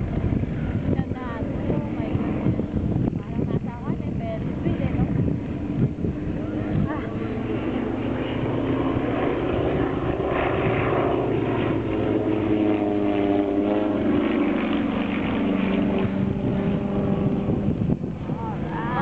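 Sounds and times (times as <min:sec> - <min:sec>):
propeller planes droning: 0:00.0 - 0:19.0.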